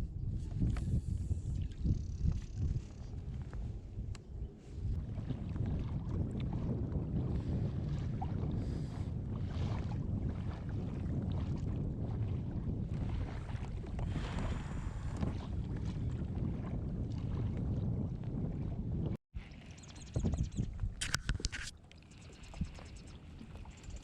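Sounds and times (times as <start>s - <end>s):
wind rumbling on microphone: 0.0s - 24.0s
water washing against hull: 0.4s - 24.0s.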